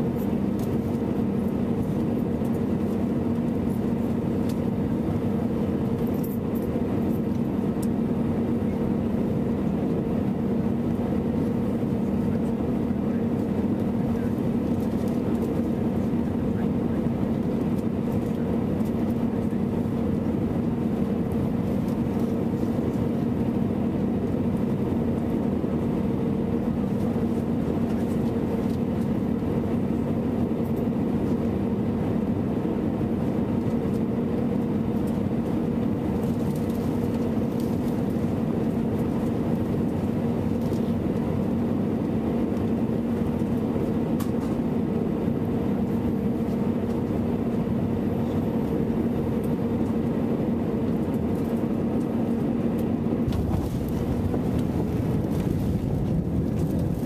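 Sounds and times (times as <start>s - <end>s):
airplane cabin engine and airflow noise: 0.0s - 57.0s.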